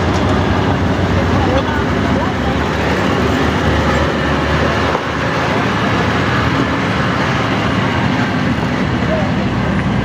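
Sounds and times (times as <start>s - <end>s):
diesel truck engine running: 0.0s - 10.0s
truck rattling on rough road: 0.0s - 10.0s.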